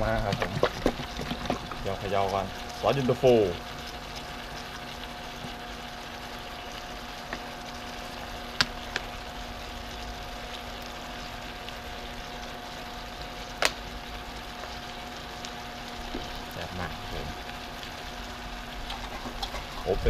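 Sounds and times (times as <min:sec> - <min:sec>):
soup bubbling in a wok: 0:00.0 - 0:20.0.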